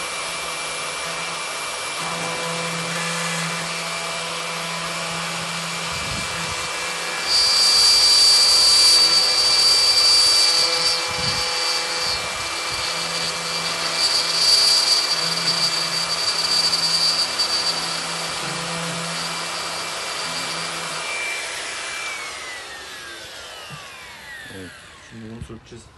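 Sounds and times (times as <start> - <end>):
router bit cutting wood: 0.0 - 25.5
router whining: 0.0 - 25.7.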